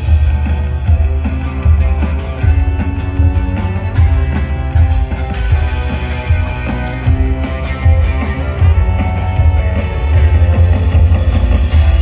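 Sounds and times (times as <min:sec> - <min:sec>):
bass line: 0:00.0 - 0:12.0
sustained guitar tones: 0:00.0 - 0:12.0.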